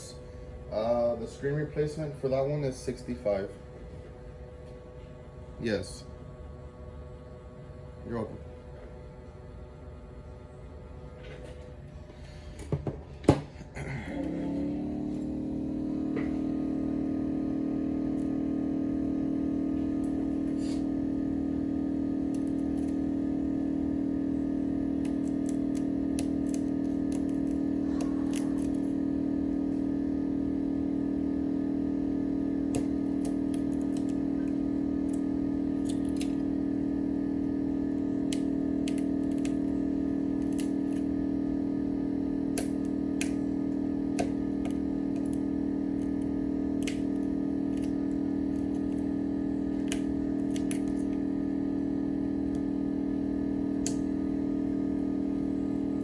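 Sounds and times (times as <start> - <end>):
electrical hum from machine: 0.0 - 56.0.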